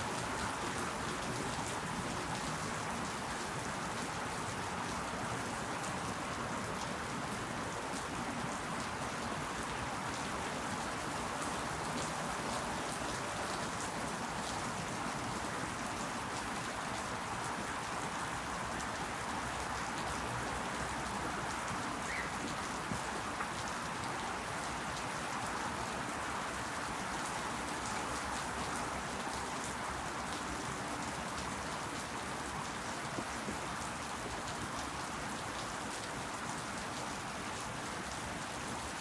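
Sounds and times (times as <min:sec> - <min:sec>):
rain falling on leaves: 0:00.0 - 0:39.0.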